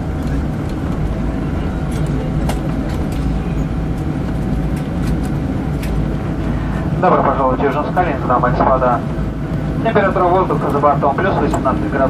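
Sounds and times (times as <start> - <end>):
aircraft engines and wheels rumbling: 0.0 - 12.0.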